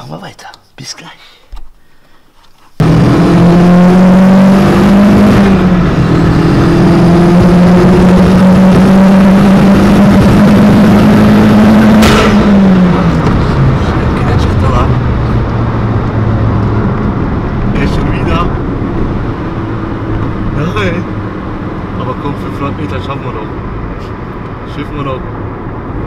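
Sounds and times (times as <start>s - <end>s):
turbo engine revving: 2.8s - 23.9s.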